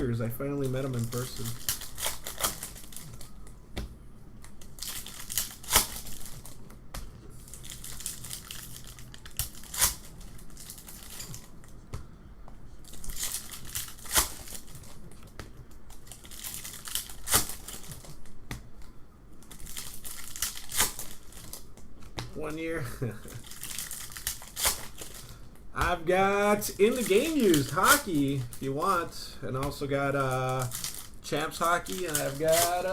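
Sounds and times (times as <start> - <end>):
foil wrappers crinkling and tearing: 0.4 - 3.5, 4.4 - 6.6, 7.3 - 11.8, 12.8 - 18.4, 19.4 - 21.9, 22.6 - 32.9.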